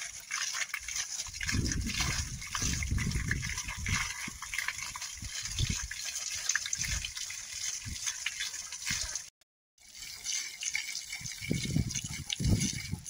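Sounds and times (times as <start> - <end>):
water gushing and splashing: 0.0 - 13.0.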